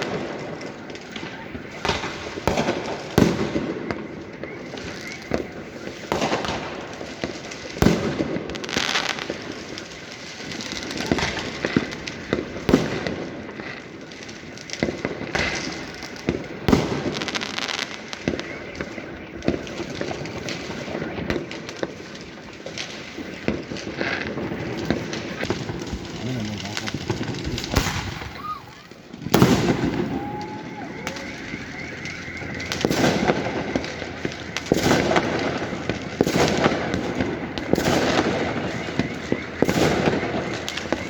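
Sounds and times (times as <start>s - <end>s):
firecracker bangs: 0.0s - 41.0s
fireworks crackling: 0.0s - 41.0s.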